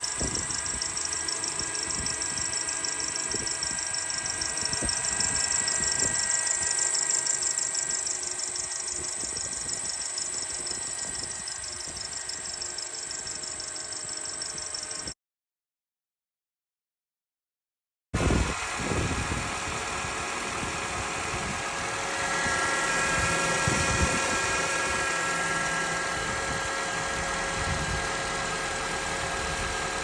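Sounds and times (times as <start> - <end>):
rapid high-pitched engine chirping: 0.0 - 15.2, 18.3 - 30.0.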